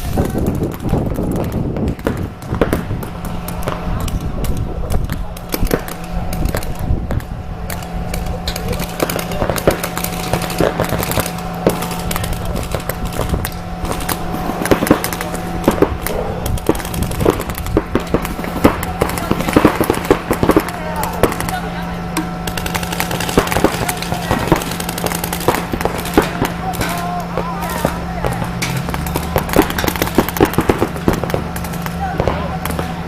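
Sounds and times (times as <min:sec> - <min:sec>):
sharp clacks and pops: 0:00.0 - 0:21.6, 0:22.2 - 0:32.9
steady low hum: 0:00.0 - 0:33.0.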